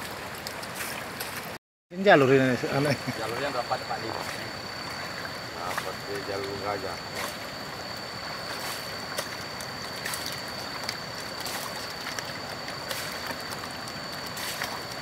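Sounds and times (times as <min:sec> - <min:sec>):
small splashes and drips: 0:00.0 - 0:01.6, 0:03.0 - 0:15.0
water sloshing in a pan: 0:02.8 - 0:15.0.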